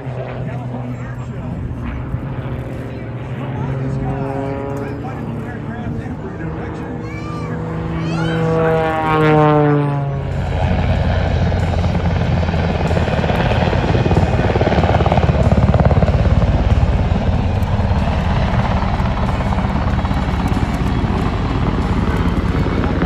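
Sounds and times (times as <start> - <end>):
aircraft flying past: 0.0 - 23.0.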